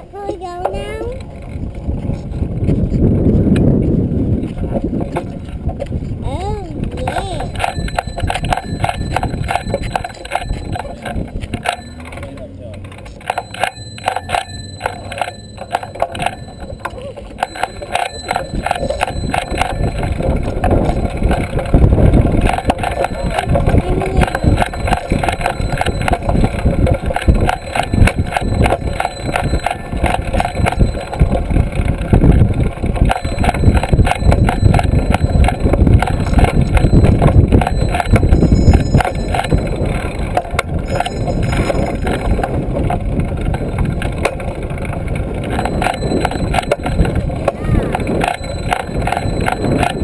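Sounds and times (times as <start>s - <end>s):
wind buffeting microphone: 0.0s - 12.8s, 14.8s - 50.0s
bike rattling: 0.0s - 50.0s.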